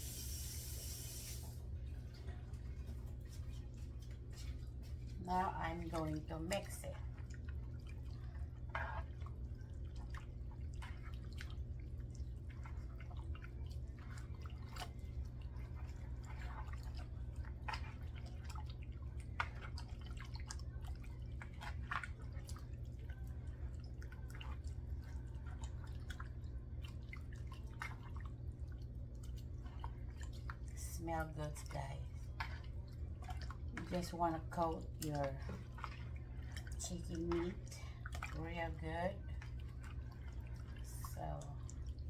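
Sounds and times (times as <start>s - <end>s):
wet squelches of chicken in marinade: 0.0s - 42.0s.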